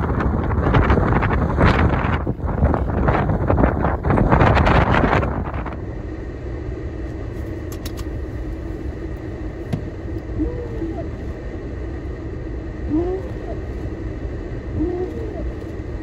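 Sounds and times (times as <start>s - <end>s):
blizzard wind blasting microphone: 0.0s - 16.0s
low rumble inside vehicle: 0.0s - 16.0s
wind whistling around vehicle: 0.0s - 16.0s.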